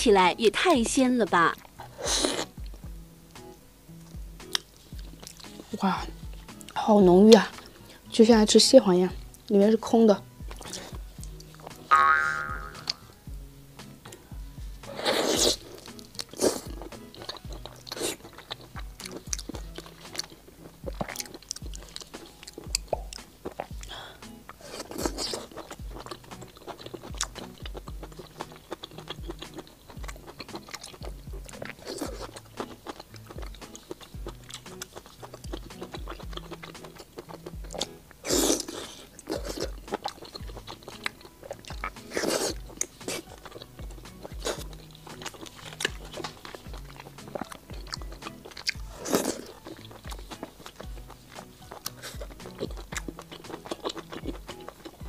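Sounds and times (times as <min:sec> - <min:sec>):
background music with steady beat: 0:00.0 - 0:55.0
chewing and biting food: 0:01.5 - 0:02.8, 0:04.1 - 0:07.9, 0:10.4 - 0:13.2, 0:14.1 - 0:55.0.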